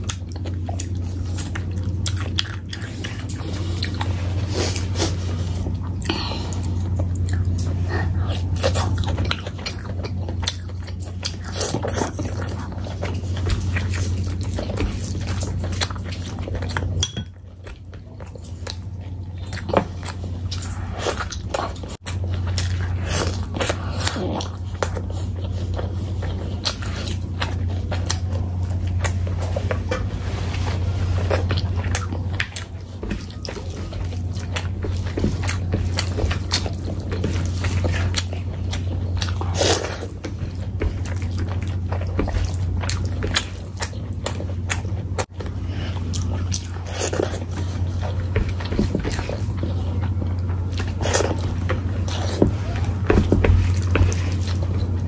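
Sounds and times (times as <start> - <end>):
steady low hum: 0.0 - 55.0
wet chewing and smacking: 0.0 - 55.0.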